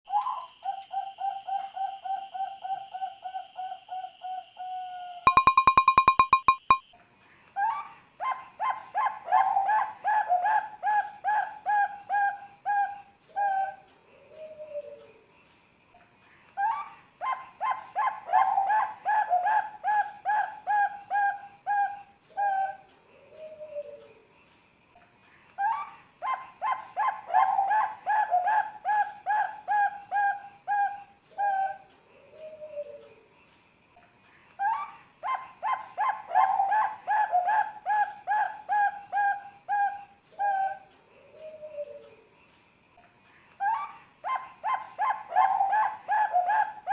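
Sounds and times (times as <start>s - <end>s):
dove cooing: 0.1s - 5.5s, 7.7s - 15.2s, 16.6s - 24.2s, 25.6s - 33.2s, 34.6s - 42.2s, 43.6s - 46.9s.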